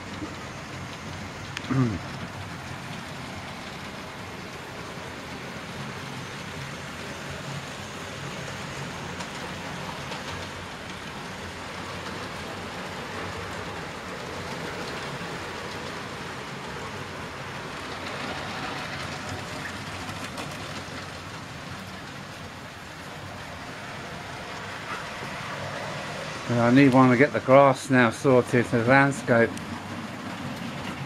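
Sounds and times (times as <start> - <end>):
model train motors whirring: 0.0 - 31.0
wheels rolling on track: 0.0 - 31.0.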